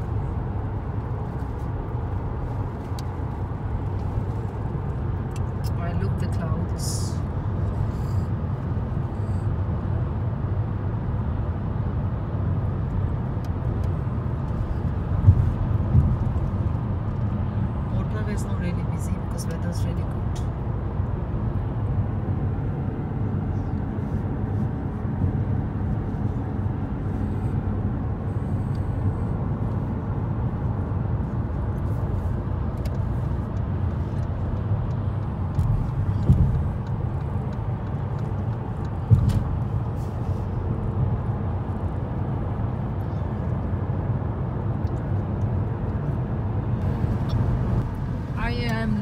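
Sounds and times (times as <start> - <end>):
road and engine noise in car: 0.0 - 49.0.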